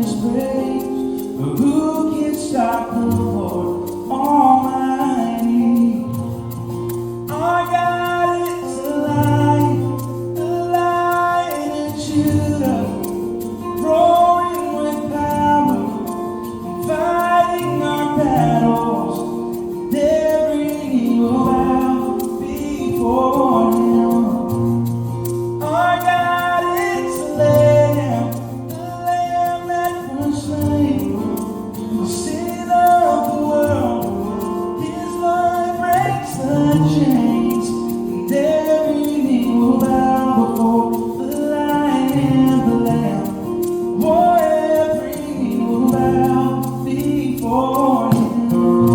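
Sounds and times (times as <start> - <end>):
person singing melodic vocal line: 0.0 - 24.8, 25.6 - 48.9.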